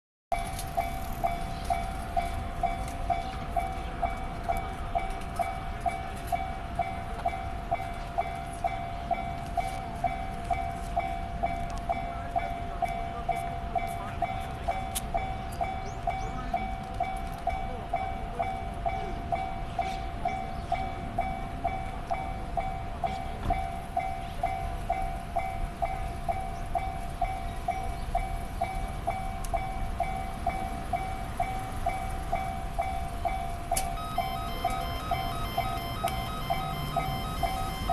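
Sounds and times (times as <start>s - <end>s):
level-crossing warning bell: 0.3s - 37.9s.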